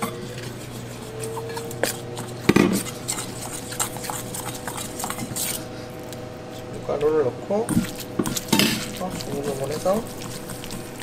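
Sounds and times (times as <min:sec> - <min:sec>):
utensils and dishes clinking: 0:00.0 - 0:05.6, 0:07.7 - 0:11.0.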